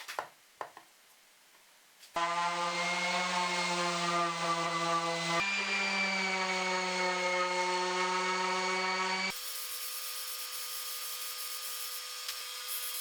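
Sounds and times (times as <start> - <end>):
power tool motor running: 2.2 - 13.0.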